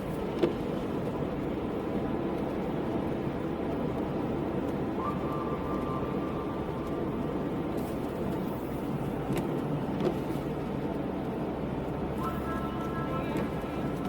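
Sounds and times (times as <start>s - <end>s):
car tyres on wet road: 0.0s - 14.0s.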